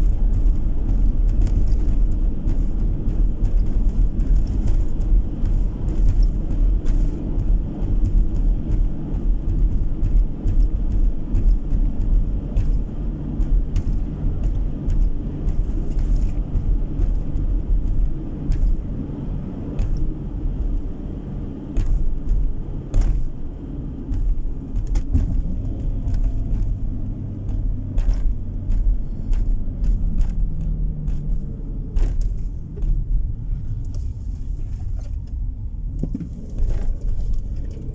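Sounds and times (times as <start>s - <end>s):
car engine and tyres rumbling: 0.0s - 37.9s.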